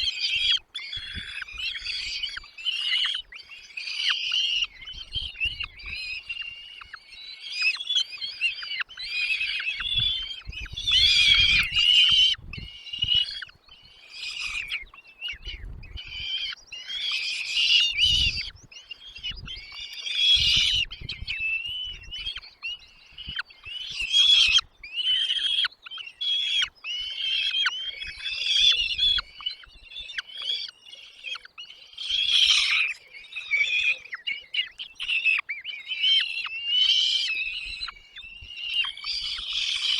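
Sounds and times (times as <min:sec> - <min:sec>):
nestling birds chirping: 0:00.0 - 0:39.9.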